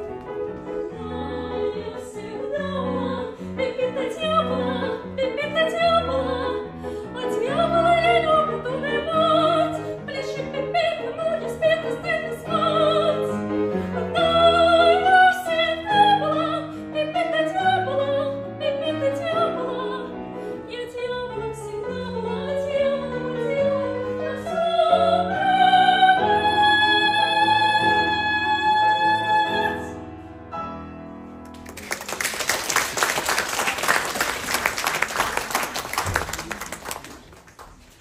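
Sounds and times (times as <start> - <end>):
piano accompaniment: 0.0 - 38.0.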